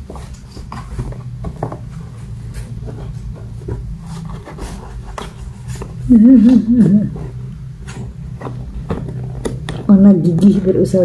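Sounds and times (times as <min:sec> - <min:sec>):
kittens scratching cardboard box: 0:00.0 - 0:10.9.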